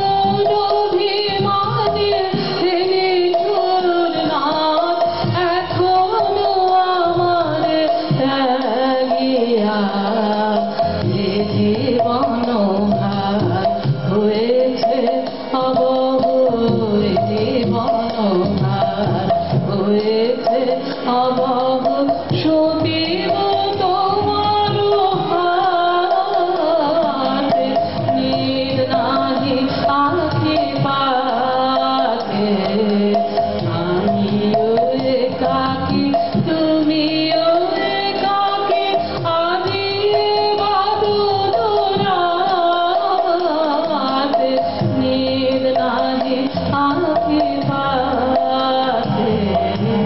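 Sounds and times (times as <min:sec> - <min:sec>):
tabla playing rhythm: 0:00.0 - 0:50.0
woman singing folk song: 0:00.0 - 0:50.0.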